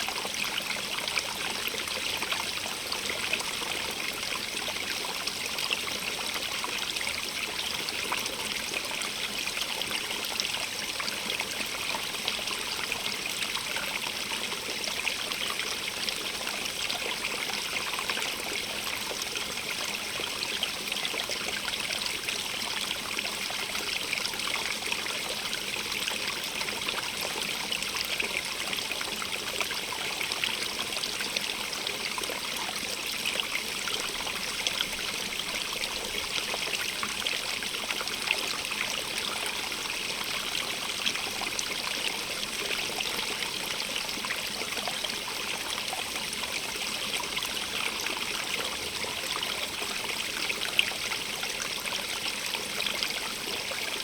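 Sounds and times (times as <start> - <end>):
stream of running water: 0.0 - 54.0.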